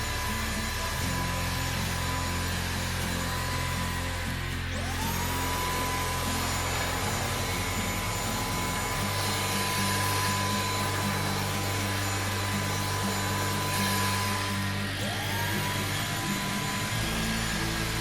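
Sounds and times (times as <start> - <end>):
vacuum motor whine: 0.0 - 18.0.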